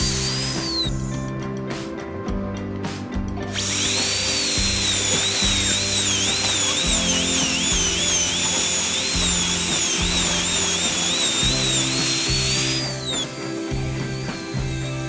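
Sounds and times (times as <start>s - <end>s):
dental drill whining: 0.0s - 1.3s, 3.5s - 15.0s
background music with bass: 0.0s - 15.0s.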